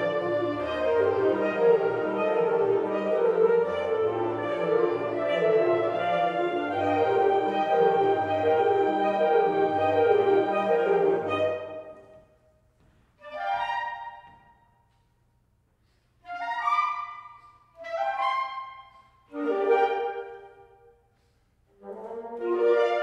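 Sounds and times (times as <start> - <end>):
woodwind ensemble chords: 0.0 - 12.6, 13.2 - 14.8, 15.9 - 23.0.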